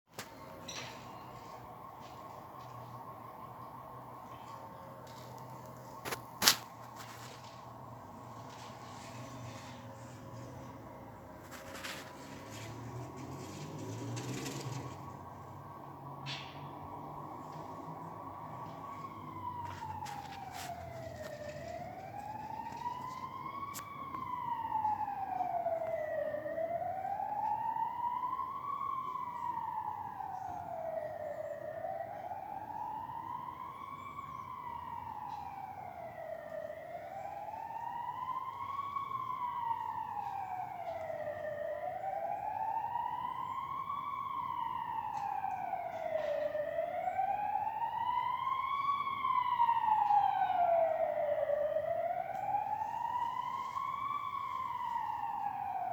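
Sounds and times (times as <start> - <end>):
police siren wailing: 0.2 - 55.9.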